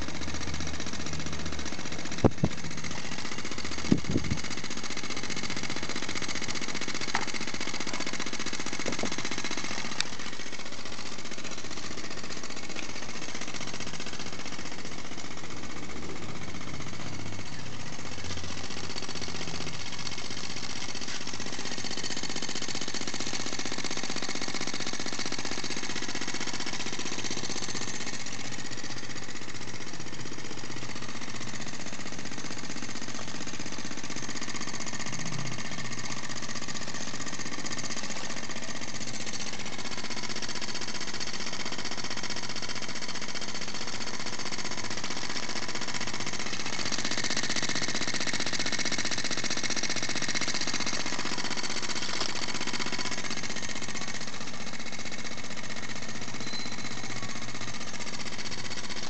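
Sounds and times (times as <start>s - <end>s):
steam engine rapid clatter: 0.0s - 59.0s.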